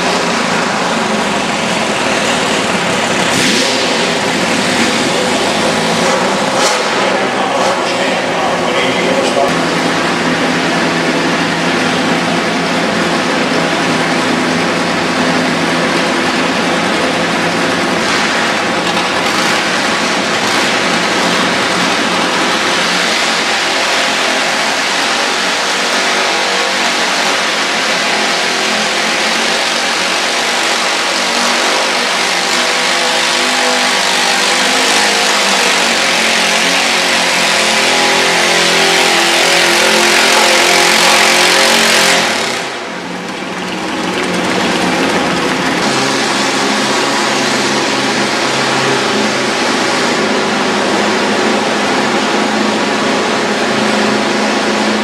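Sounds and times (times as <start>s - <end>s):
engine running hard under load: 0.0s - 55.0s.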